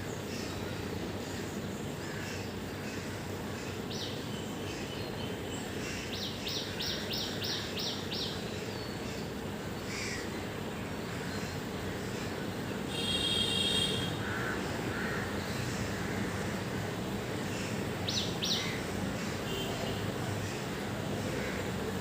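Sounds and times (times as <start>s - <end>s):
birds calling: 0.1s - 22.0s.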